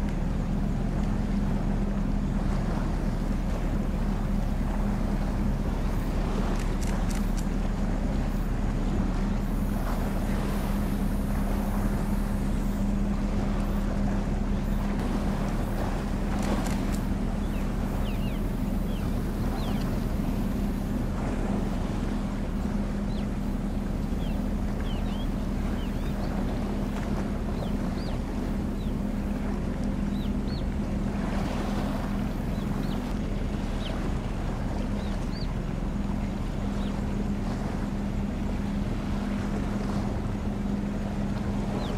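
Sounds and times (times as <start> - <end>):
ship engines droning: 0.0 - 41.9
wind and water noise: 0.0 - 41.9.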